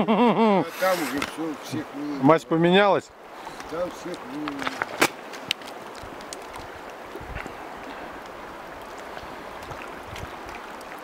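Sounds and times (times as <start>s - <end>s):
river rushing over stones: 0.6s - 11.0s.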